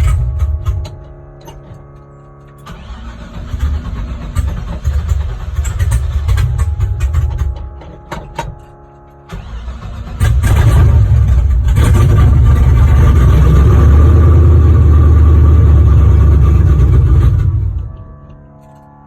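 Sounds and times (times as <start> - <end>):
pickup engine starting and running: 0.0 - 18.5.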